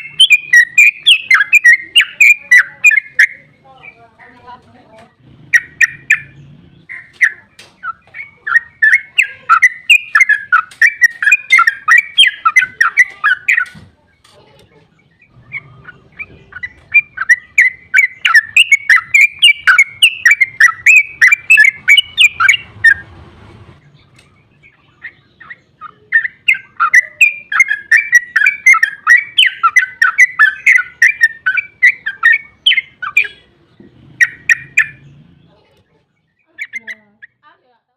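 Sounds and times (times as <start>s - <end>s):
bird singing bubbly notes: 0.0s - 4.0s, 5.2s - 13.8s, 15.0s - 23.0s, 23.8s - 35.4s.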